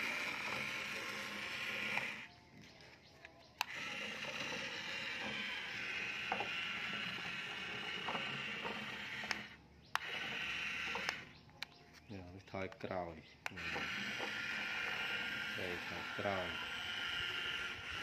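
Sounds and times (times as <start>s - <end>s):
toy truck motor whirring: 0.0s - 18.0s.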